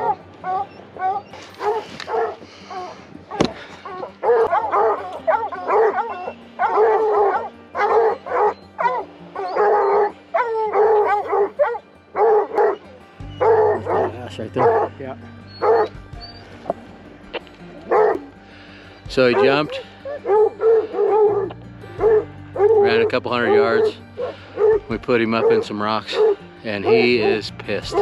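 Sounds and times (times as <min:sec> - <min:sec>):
dogs barking and baying: 0:00.0 - 0:28.0.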